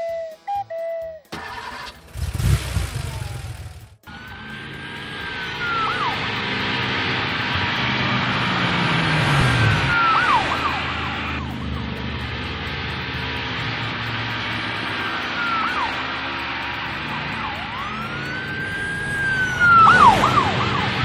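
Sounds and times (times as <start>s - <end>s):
rushing vehicle noise: 0.9s - 21.0s
police siren wailing: 3.1s - 21.0s.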